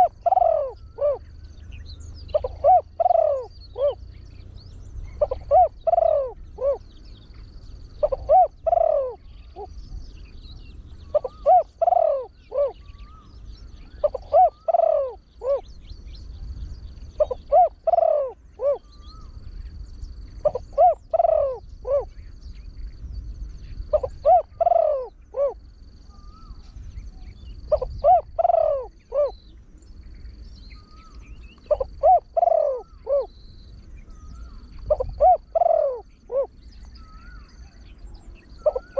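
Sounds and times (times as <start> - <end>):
dove cooing: 0.0 - 9.8, 10.9 - 15.8, 17.1 - 19.4, 20.1 - 22.3, 23.7 - 29.5, 30.7 - 38.9.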